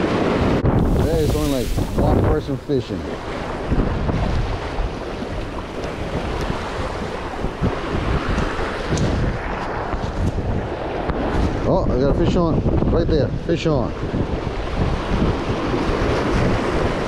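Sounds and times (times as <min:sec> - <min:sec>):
surf washing against rocks: 0:00.0 - 0:12.8, 0:13.6 - 0:17.0
wind buffeting microphone: 0:00.0 - 0:17.0.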